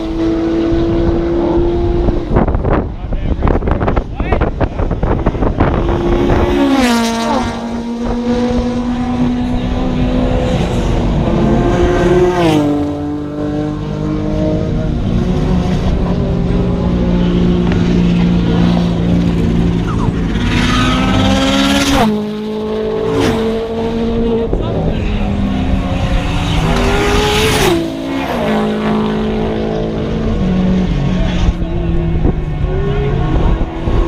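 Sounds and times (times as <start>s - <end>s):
race cars passing at high revs: 0.0s - 34.0s.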